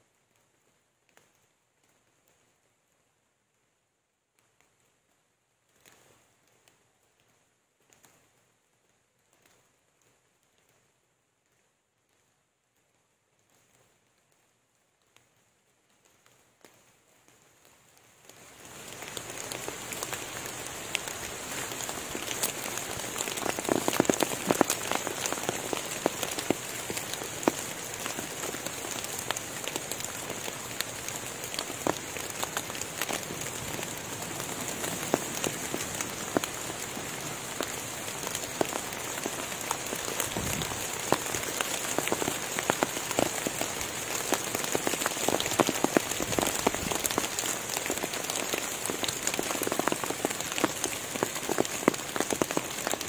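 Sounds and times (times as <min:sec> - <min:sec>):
rain falling on leaves: 0:00.0 - 0:53.0.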